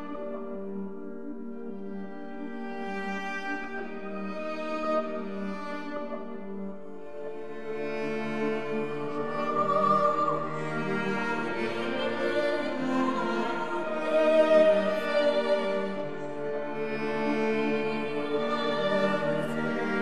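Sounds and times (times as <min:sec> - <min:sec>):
slow bowed string music: 0:00.0 - 0:20.0.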